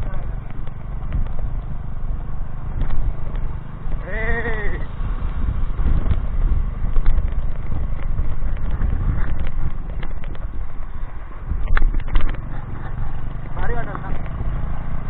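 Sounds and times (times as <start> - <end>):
motorcycle engine and wind rumble: 0.0 - 15.0.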